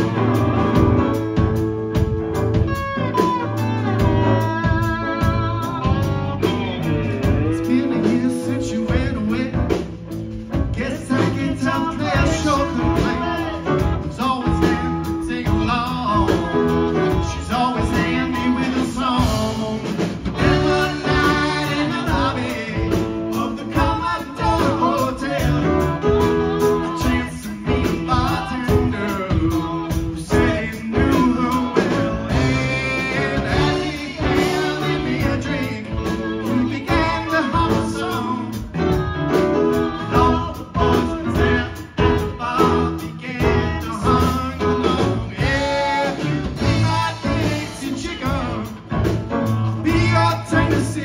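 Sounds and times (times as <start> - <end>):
person singing: 0.0 - 51.0
rock band playing: 0.0 - 51.0.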